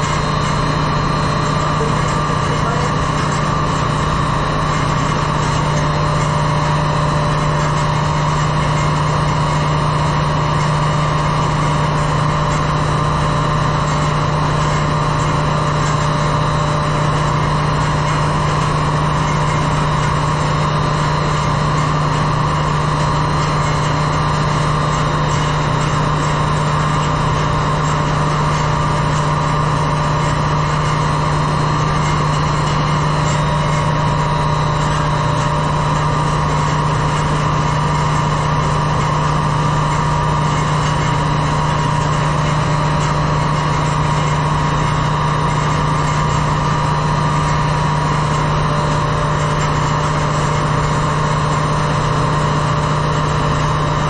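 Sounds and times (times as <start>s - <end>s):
engine room machinery droning: 0.0s - 54.0s.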